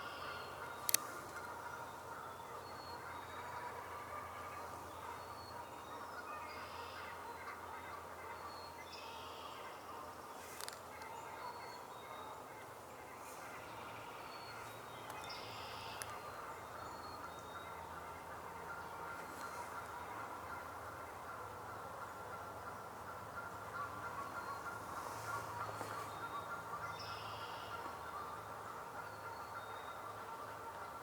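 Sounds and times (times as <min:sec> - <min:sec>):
woodland birdsong: 0:00.0 - 0:31.0.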